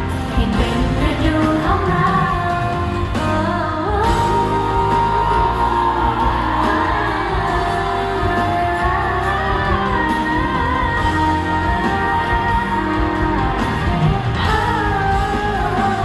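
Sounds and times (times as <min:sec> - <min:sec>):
amplified backing track: 0:00.0 - 0:16.0
woman singing pop song: 0:00.0 - 0:16.0.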